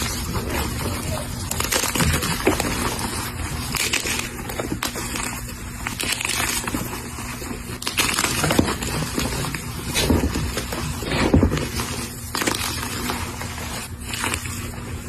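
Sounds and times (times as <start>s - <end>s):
chalk block crunching: 0.0s - 15.0s.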